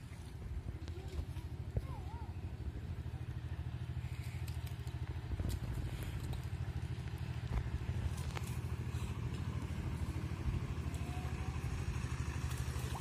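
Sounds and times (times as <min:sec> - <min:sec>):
low fluttering rumble: 0:00.0 - 0:13.0.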